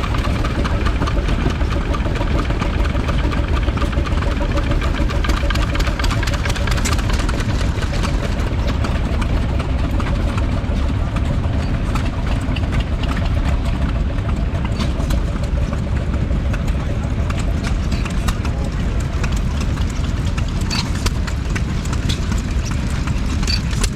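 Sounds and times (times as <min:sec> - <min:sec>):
stationary engine running: 0:00.0 - 0:23.9.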